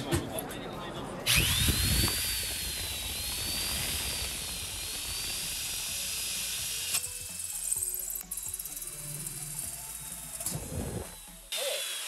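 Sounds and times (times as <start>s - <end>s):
electric drill motor whine: 1.3s - 12.0s
hole saw cutting hiss: 1.3s - 12.0s.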